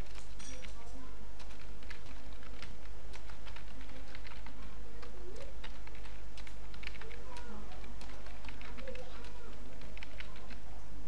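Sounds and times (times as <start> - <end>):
steady low hum: 0.0 - 11.0
keyboard key clicks: 1.4 - 10.6.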